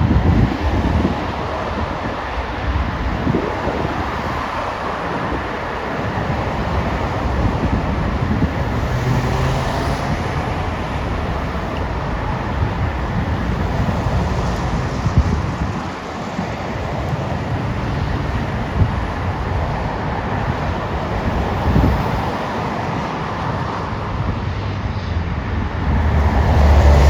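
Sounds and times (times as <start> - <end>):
jet engine rumble: 0.0 - 27.0
wind buffeting microphone: 0.0 - 27.0.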